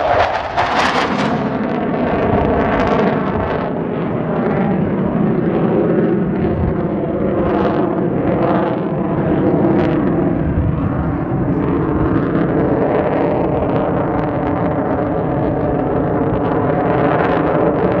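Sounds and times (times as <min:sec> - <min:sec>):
jet roar passing overhead: 0:00.0 - 0:18.0.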